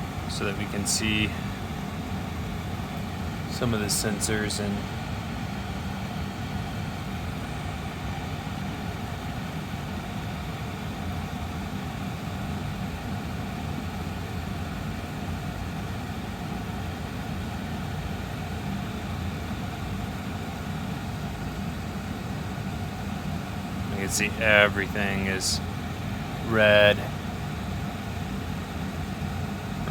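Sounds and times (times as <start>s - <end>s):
air purifier fan running: 0.0s - 29.9s.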